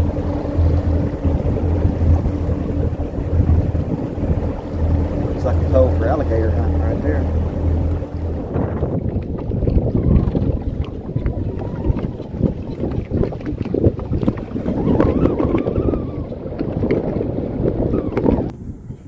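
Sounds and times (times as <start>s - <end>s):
water rushing around boat: 0.0s - 19.0s
wind buffeting microphone: 0.0s - 19.0s.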